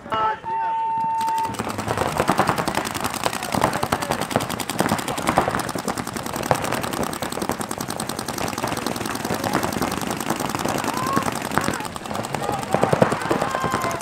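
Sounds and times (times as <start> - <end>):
paintball guns rapid popping: 1.0 - 14.0.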